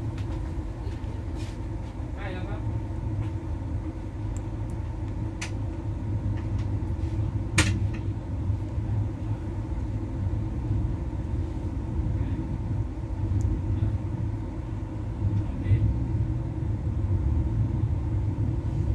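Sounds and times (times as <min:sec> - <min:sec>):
train rumbling on the track: 0:00.0 - 0:18.9.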